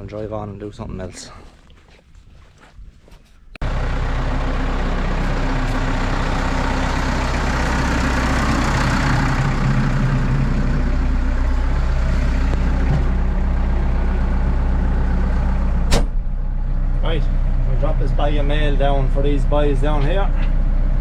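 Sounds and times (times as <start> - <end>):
tractor diesel engine running: 3.6 - 21.0.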